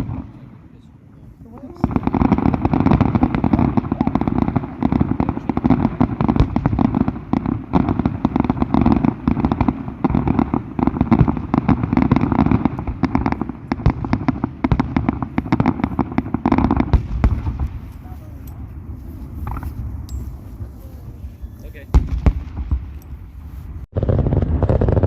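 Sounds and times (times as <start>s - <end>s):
fireworks booming and crackling: 0.0s - 25.0s.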